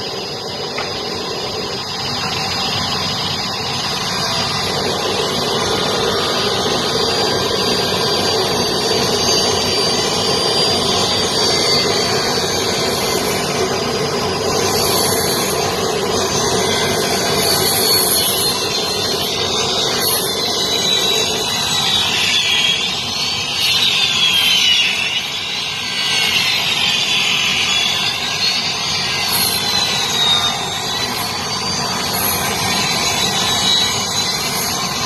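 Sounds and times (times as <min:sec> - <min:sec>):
high saw whine: 0:00.0 - 0:35.0
wood-cutting saw running: 0:00.0 - 0:35.0.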